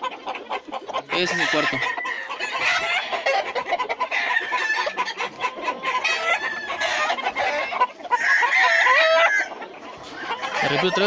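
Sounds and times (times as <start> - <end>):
roosters crowing and clucking: 0.0 - 11.0.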